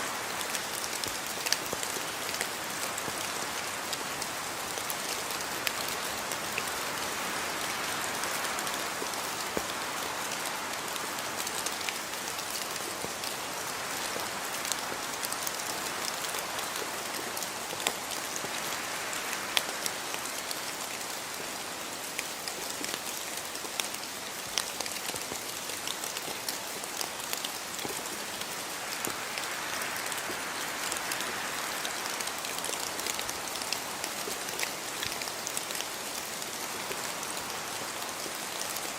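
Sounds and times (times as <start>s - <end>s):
rain hissing: 0.0s - 38.9s
raindrops pattering: 0.0s - 38.9s.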